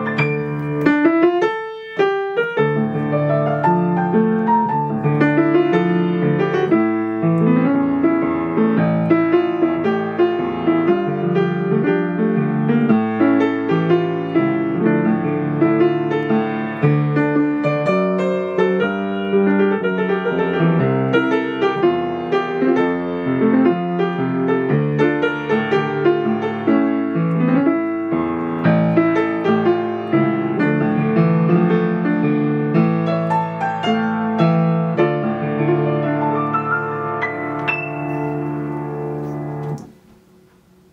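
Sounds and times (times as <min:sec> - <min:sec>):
solo grand piano: 0:00.0 - 0:40.9.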